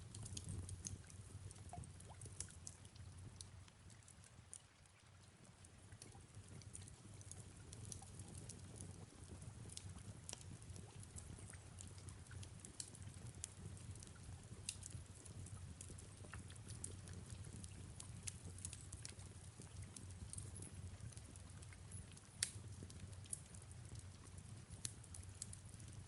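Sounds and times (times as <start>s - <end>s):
fireplace crackling: 0.0s - 26.0s
soft rain: 0.0s - 26.0s.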